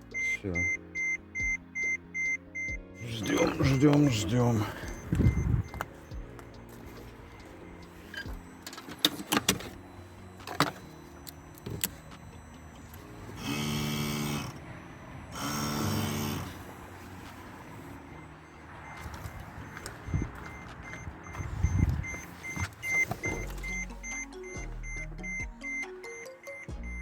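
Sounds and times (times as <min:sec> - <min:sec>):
electric pump motor buzzing: 0:03.2 - 0:26.1.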